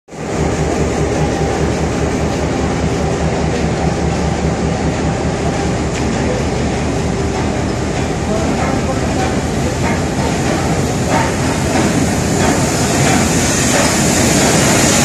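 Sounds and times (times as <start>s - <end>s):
steam train rumbling: 0.1s - 15.0s.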